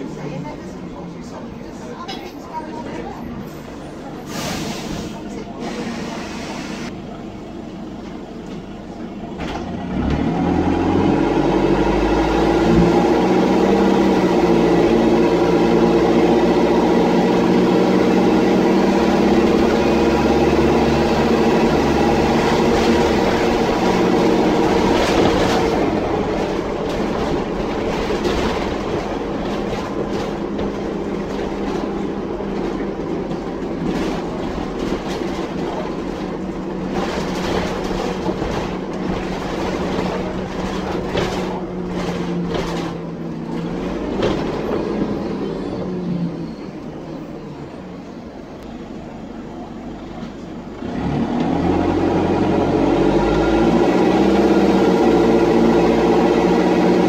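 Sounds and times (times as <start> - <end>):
bus diesel engine accelerating: 0.0 - 57.0.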